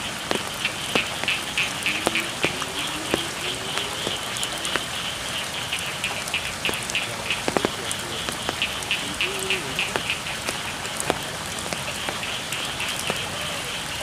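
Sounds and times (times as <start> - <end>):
drops ticking: 0.0 - 14.0
frogs calling: 0.0 - 14.0
steady rain: 0.0 - 14.0.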